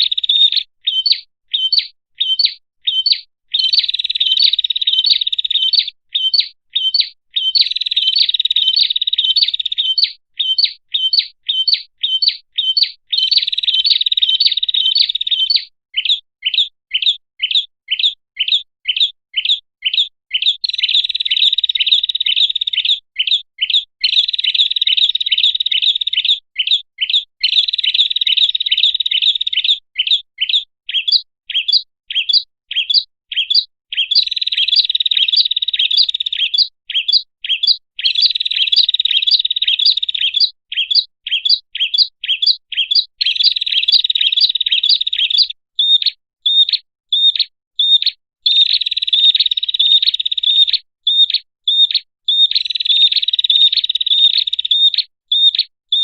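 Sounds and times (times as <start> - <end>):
bird chirps and trills: 0.0 - 56.0.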